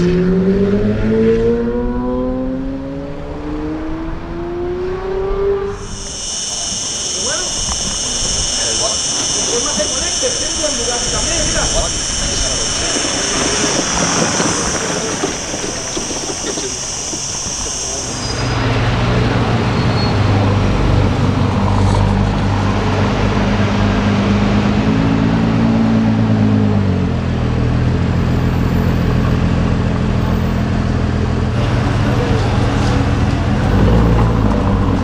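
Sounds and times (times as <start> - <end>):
car engine running: 5.7 - 35.0.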